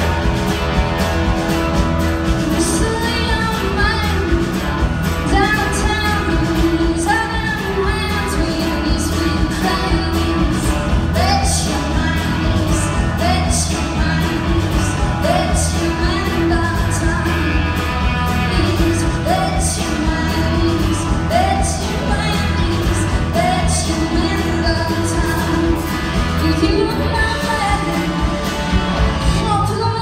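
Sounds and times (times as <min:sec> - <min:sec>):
drums: 0:00.0 - 0:30.0
electric guitars: 0:00.0 - 0:30.0
woman singing: 0:02.4 - 0:28.3, 0:29.2 - 0:30.0.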